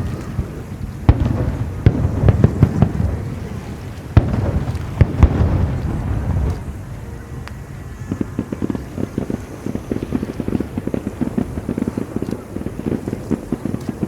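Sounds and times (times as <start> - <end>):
low rumble: 0.0 - 12.7
fireworks bursting: 0.0 - 14.0.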